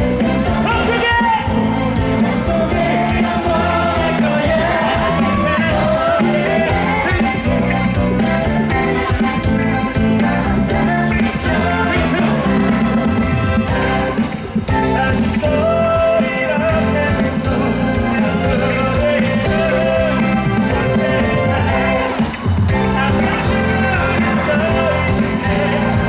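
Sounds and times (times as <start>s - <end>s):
live pop band playing: 0.0s - 26.0s
person singing: 0.2s - 13.2s, 13.8s - 26.0s.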